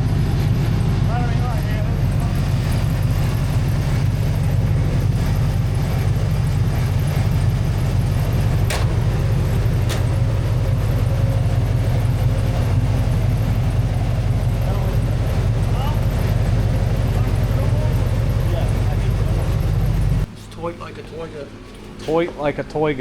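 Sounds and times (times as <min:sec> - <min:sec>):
pickup engine droning: 0:00.0 - 0:21.6.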